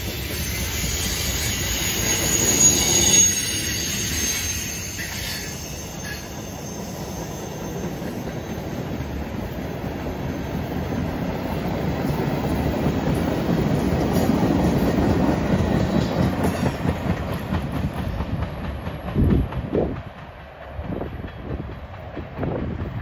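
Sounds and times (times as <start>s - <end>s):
train wheels clattering over rail joints: 0.0s - 23.0s.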